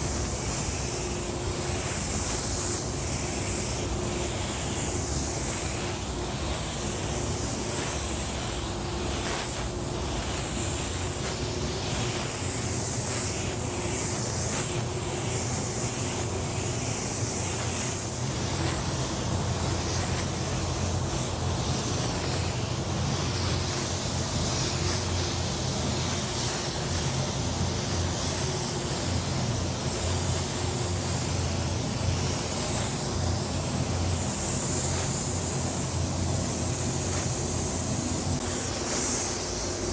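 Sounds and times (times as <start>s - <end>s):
low hum of fans: 0.0s - 39.9s
spray gun hissing: 0.0s - 39.9s.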